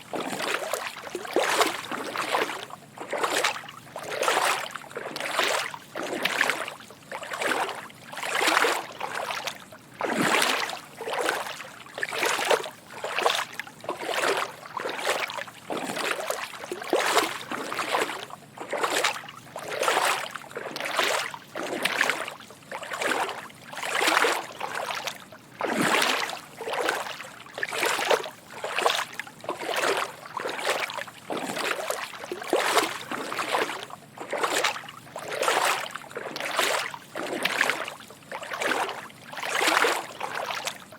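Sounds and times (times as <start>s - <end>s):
footsteps wading through water: 0.0s - 40.9s.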